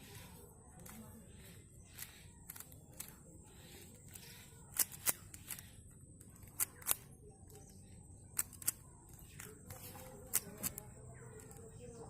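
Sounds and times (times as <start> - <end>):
puzzle cube twisting clicks: 1.8 - 11.7.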